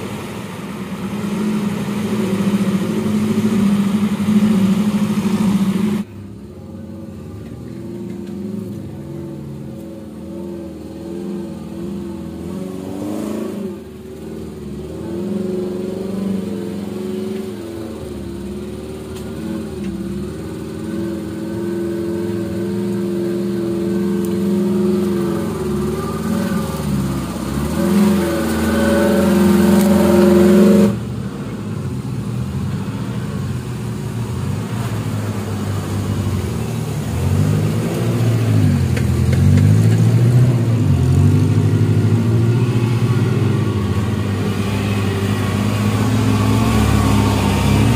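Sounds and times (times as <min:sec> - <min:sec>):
deeper engine: 0:00.0 - 0:47.9
off-road engines revving: 0:00.0 - 0:47.9.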